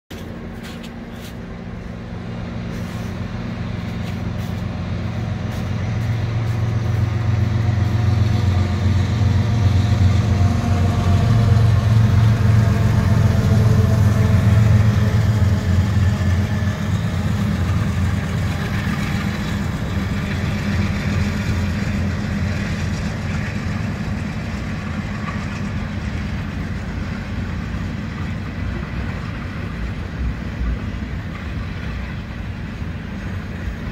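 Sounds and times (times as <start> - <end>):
diesel locomotive drone: 0.0 - 33.9
freight cars rolling on rails: 0.1 - 33.9.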